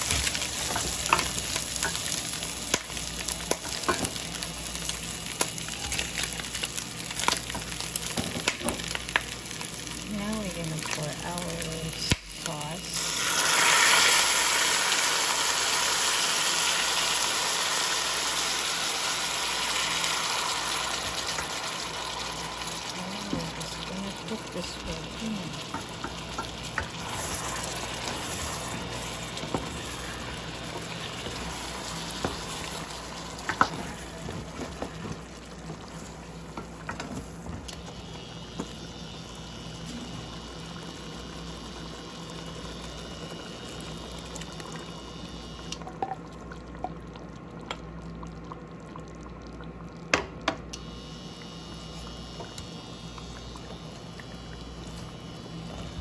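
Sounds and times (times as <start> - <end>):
pot sizzling: 0.0 - 47.9, 50.1 - 56.0.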